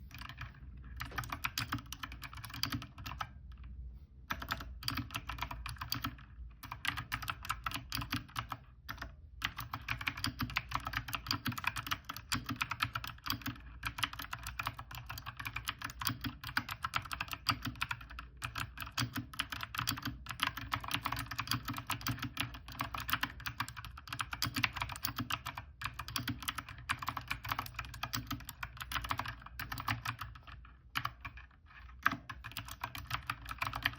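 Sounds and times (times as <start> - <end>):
fast typing on clicky keyboard: 0.1 - 3.4, 4.3 - 33.9.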